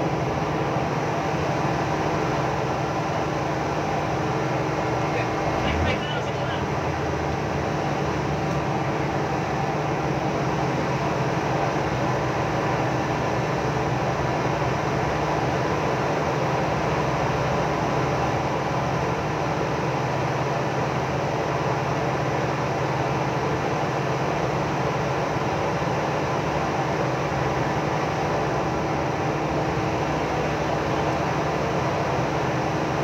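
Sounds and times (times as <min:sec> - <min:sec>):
boat engines droning: 0:00.0 - 0:33.0.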